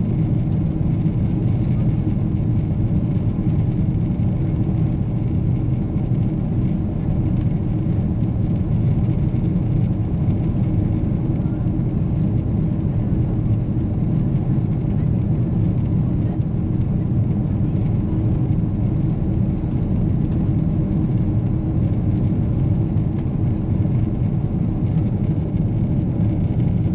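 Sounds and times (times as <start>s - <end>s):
airplane cabin low rumble: 0.0s - 26.9s.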